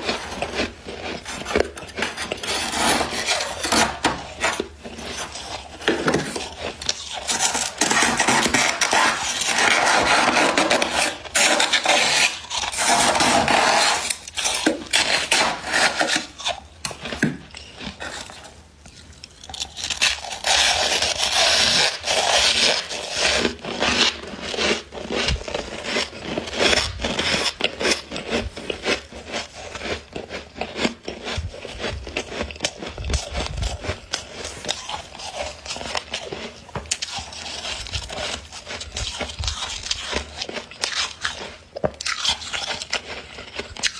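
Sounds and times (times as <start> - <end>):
frost being scraped: 0.0 - 18.6, 19.5 - 43.9.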